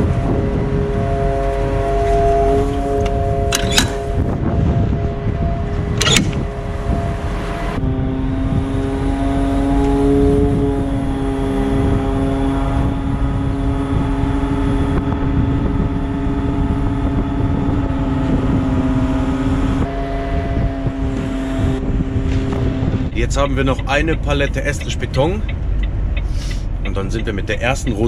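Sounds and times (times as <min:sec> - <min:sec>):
diesel engine droning with whine: 0:00.0 - 0:28.0.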